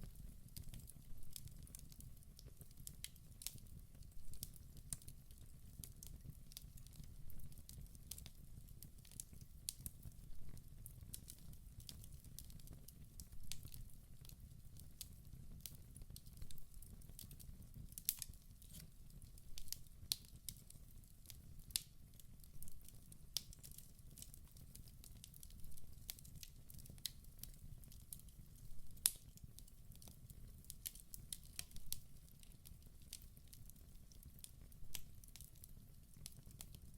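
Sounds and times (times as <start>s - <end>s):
low rumble of burning: 0.0s - 36.9s
wood fire crackling: 0.0s - 36.9s.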